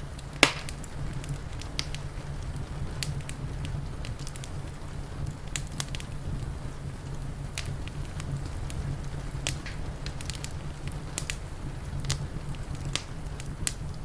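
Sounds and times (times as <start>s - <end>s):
low fire rumble: 0.0s - 14.0s
rain hissing: 0.0s - 14.0s
wood fire crackling: 0.0s - 14.0s.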